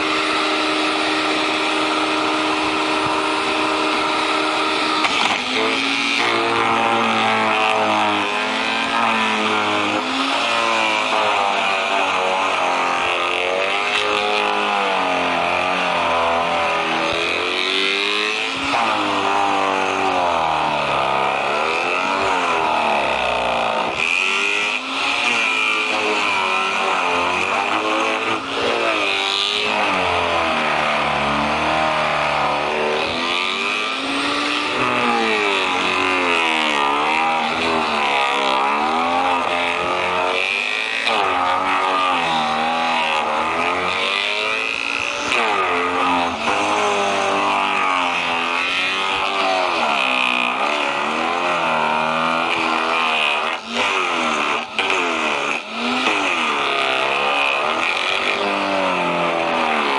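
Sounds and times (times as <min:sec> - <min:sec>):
branch shredder engine: 0:00.0 - 0:59.9.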